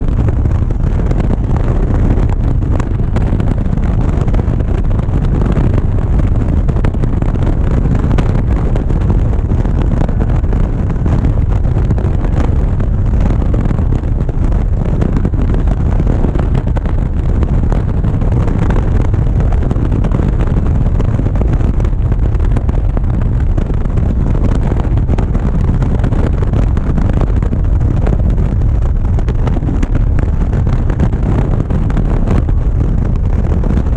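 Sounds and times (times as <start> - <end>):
motorcycle running: 0.0 - 33.9
wind buffeting microphone: 0.0 - 33.9.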